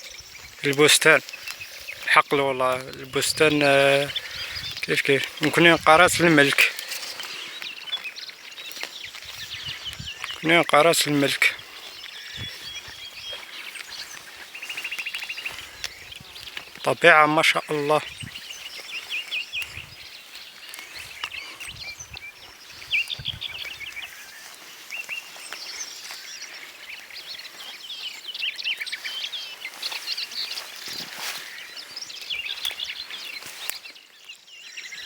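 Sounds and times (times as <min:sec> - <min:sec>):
small birds singing and chirping: 0:00.0 - 0:35.0.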